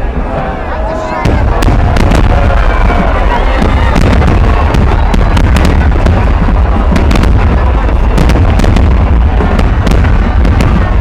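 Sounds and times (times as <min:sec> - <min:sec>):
fireworks bangs and crackles: 0:00.0 - 0:11.0
low rumble of shells bursting: 0:01.2 - 0:11.0.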